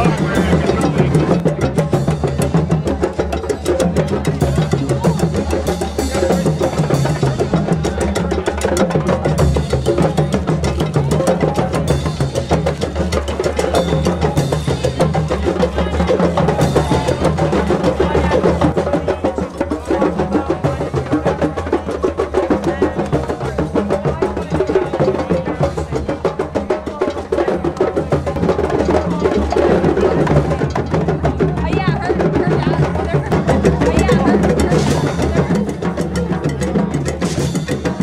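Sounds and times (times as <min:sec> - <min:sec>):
hand drums playing: 0:00.0 - 0:38.0.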